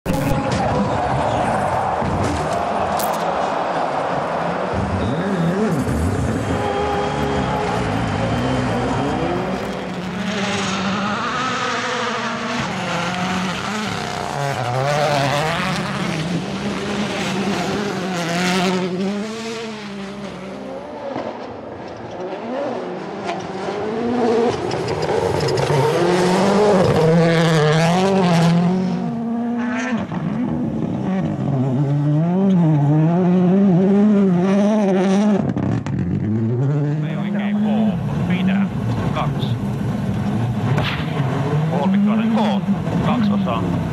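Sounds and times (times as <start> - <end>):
rally car engines revving: 0.1 - 43.9.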